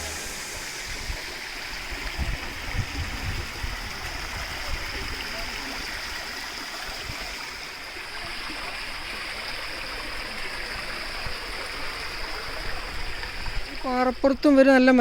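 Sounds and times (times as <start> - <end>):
waterfall and stream rushing: 0.0 - 14.4.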